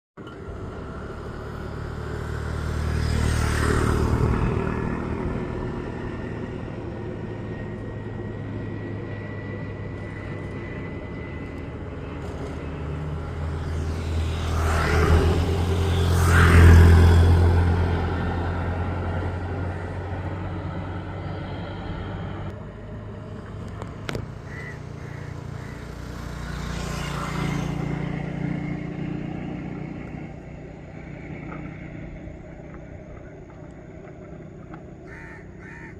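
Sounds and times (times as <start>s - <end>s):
vehicles passing by: 0.2s - 35.9s.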